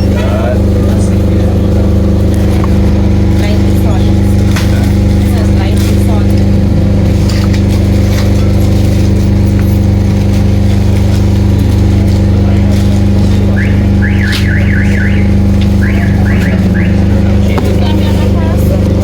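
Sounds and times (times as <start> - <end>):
mechanical hum with low drone: 0.0 - 19.0.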